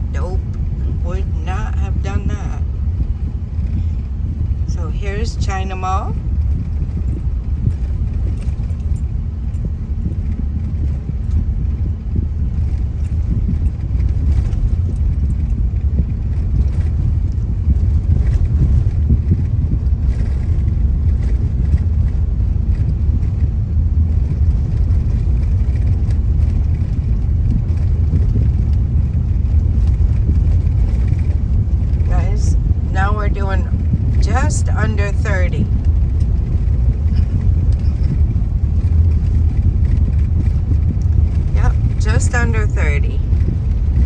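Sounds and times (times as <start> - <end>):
car road rumble: 0.0 - 44.0
light clicks and rattles: 6.4 - 23.5, 24.1 - 32.5, 33.1 - 44.0.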